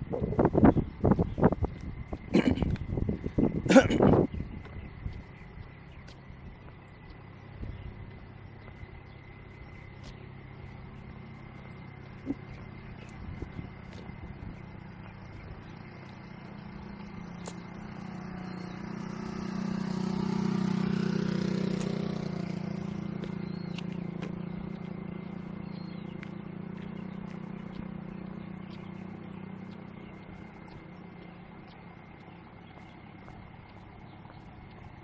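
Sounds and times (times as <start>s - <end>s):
engine passing by: 0.0s - 35.0s.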